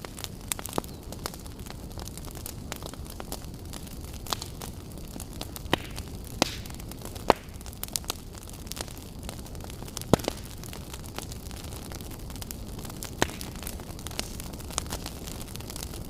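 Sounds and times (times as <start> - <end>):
wood fire crackling in fireplace: 0.0 - 16.0.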